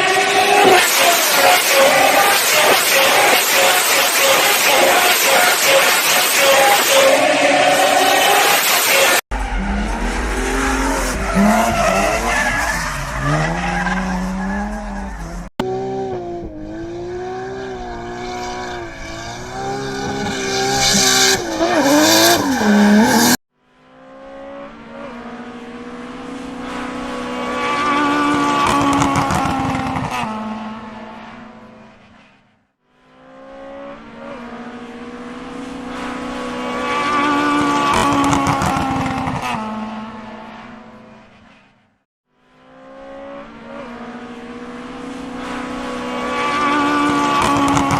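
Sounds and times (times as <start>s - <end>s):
racing car engine revving: 0.0s - 31.7s, 33.2s - 41.2s, 42.6s - 47.9s
racing cars passing by: 0.0s - 47.9s.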